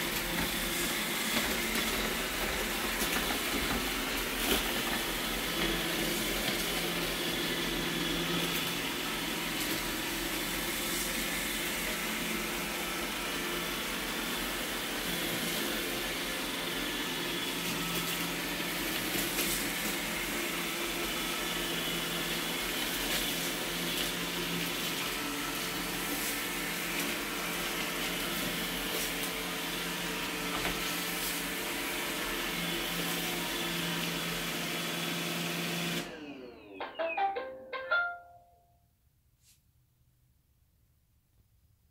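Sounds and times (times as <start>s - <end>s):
robot vacuum motor and brush whir: 0.0s - 36.8s.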